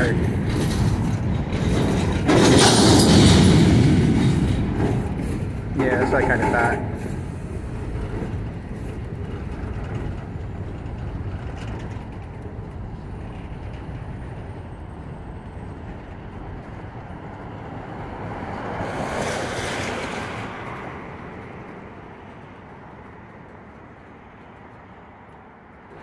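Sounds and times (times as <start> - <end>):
rushing noise: 0.0 - 23.0
steel wheels rumbling on rail: 0.0 - 26.0.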